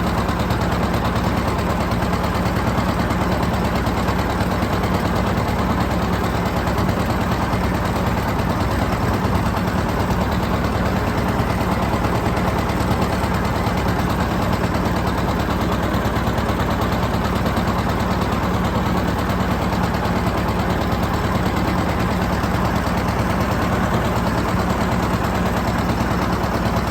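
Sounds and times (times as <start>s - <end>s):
tractor engine popping exhaust: 0.0s - 26.9s.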